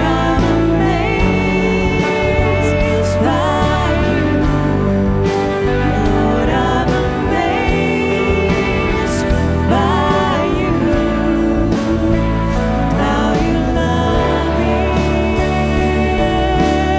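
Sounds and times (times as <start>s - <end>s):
person singing: 0.0s - 16.9s
worship band music: 0.0s - 16.9s.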